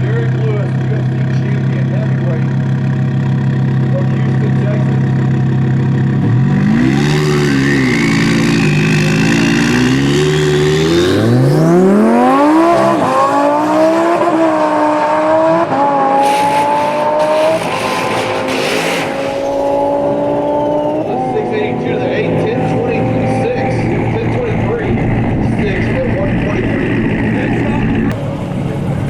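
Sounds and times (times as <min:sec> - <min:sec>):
car accelerating through gear shifts: 0:00.0 - 0:29.0
drag car engine revving: 0:00.0 - 0:29.0.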